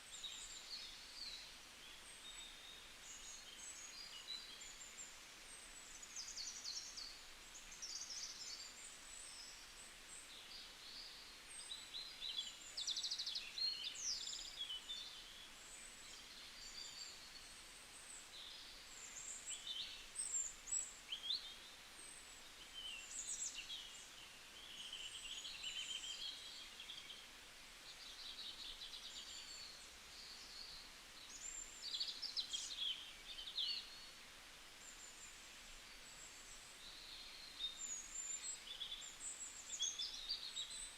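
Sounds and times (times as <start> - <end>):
faint steady hiss: 0.0 - 40.9
songbirds chirping and trilling: 0.0 - 40.9.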